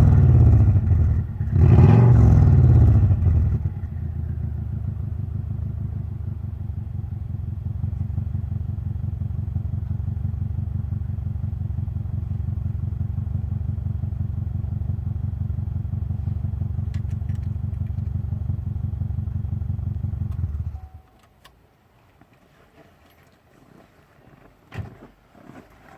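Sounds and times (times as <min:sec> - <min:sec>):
car engine idling: 0:00.0 - 0:21.2.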